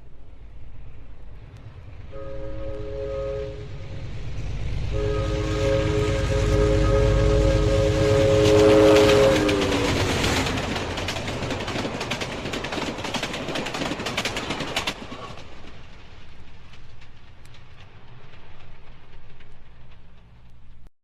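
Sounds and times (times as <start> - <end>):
train rumble: 0.0 - 20.9
train wheels clattering on track: 1.4 - 20.9.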